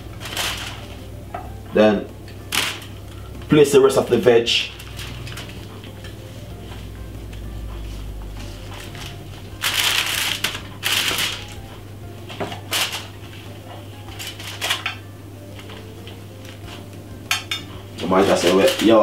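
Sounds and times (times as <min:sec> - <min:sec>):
parchment and foil crinkling: 0:00.0 - 0:01.2, 0:02.5 - 0:06.8, 0:07.7 - 0:17.0, 0:18.0 - 0:19.0.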